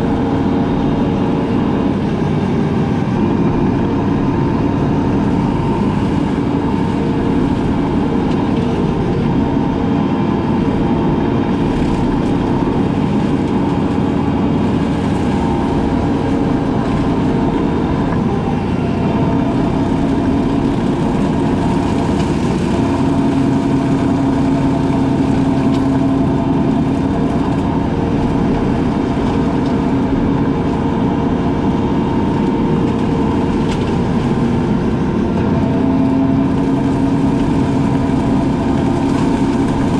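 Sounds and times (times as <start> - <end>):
brush cutter engine droning: 0.0 - 39.9.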